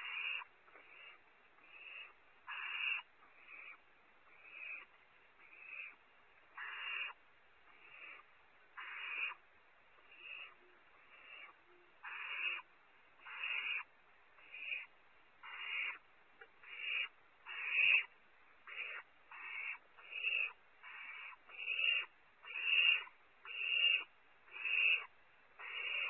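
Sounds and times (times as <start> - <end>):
owlets rasping hiss calls: 0.0 - 6.0, 6.6 - 9.4, 10.1 - 16.0, 16.6 - 26.0.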